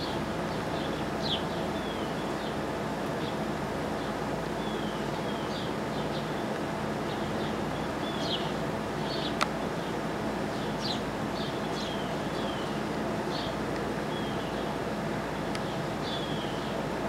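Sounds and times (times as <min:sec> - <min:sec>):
sparrows chirping: 0:00.0 - 0:16.9
steady low hum: 0:00.0 - 0:17.0.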